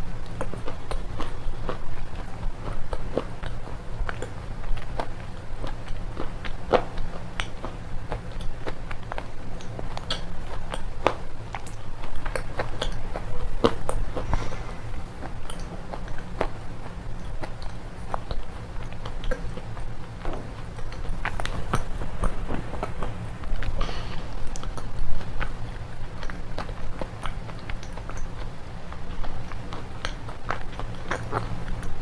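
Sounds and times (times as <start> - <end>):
chewing crunchy pencils: 0.0 - 32.0
low hum: 0.0 - 32.0.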